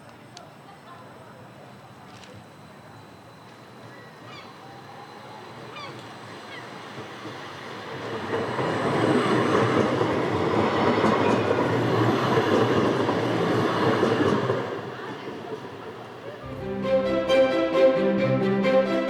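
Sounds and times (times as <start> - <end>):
tram running on rails: 0.0 - 19.0.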